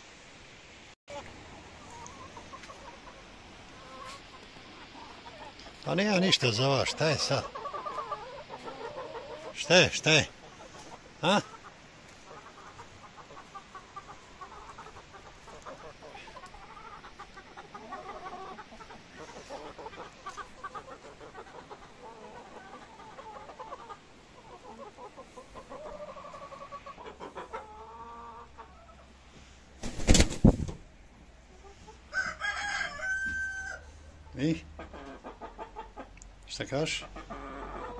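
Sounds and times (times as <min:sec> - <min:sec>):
hens clucking: 0:01.1 - 0:37.9.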